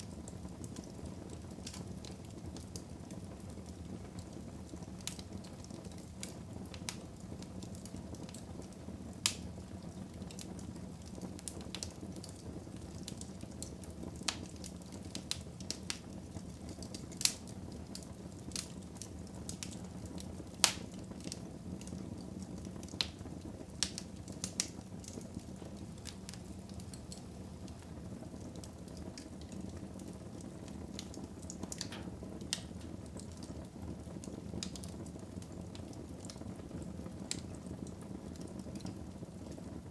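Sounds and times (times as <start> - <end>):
flames low rumble: 0.0 - 39.9
wood fire crackling and popping: 0.0 - 39.9.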